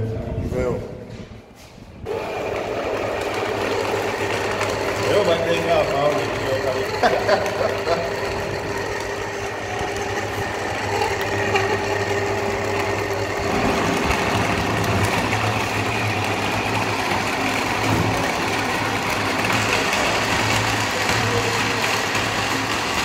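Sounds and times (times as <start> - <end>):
blender motor running: 2.1 - 23.0.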